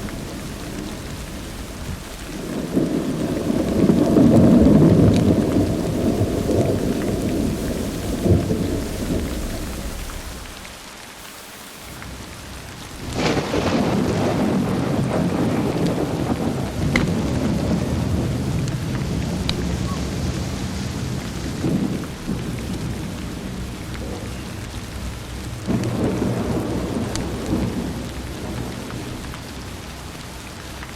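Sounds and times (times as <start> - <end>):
thunderclap: 0.0 - 12.1, 12.9 - 30.9
steady rain: 0.0 - 30.9
thunder rumbling: 0.0 - 30.9.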